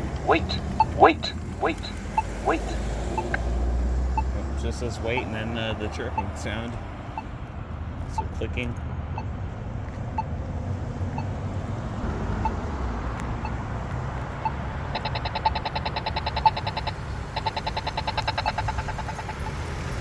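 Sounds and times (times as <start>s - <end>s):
pedestrian signal ticking: 0.0s - 7.5s, 8.1s - 20.0s
traffic rumbling: 0.0s - 20.0s.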